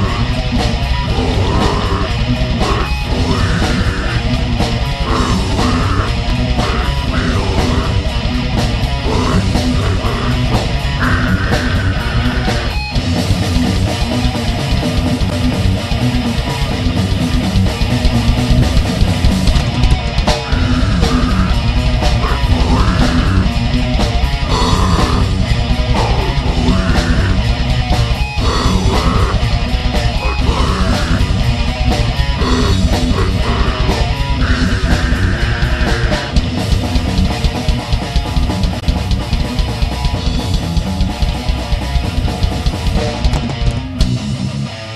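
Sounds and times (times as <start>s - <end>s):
bass guitar: 0.0s - 44.9s
distorted electric guitars: 0.0s - 44.9s
drum kit: 0.0s - 44.9s.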